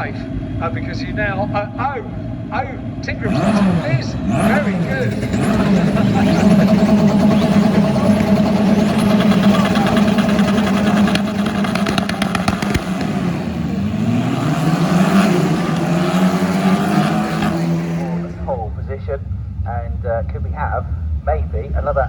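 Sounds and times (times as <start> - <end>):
racing car engines revving: 0.0 - 22.0
sharp engine crackles: 0.0 - 22.0.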